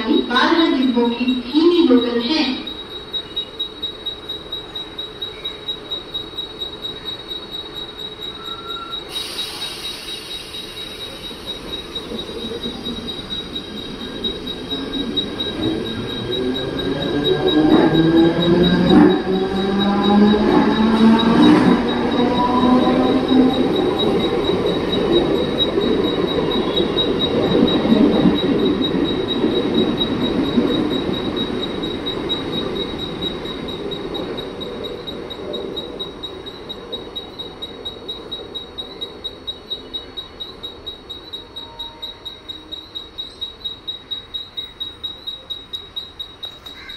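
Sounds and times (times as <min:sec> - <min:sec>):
high-pitched pulsing beep: 0:00.0 - 0:46.9
train wheels and running noise: 0:00.0 - 0:46.9.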